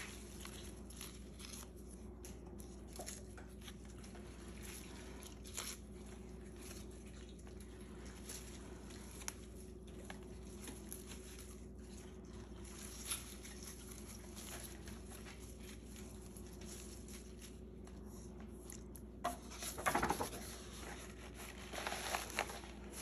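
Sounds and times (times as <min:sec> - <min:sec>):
faint steady hum: 0:00.0 - 0:23.0
paper and petals rustling: 0:00.0 - 0:23.0
paper crackling rustle: 0:00.0 - 0:23.0.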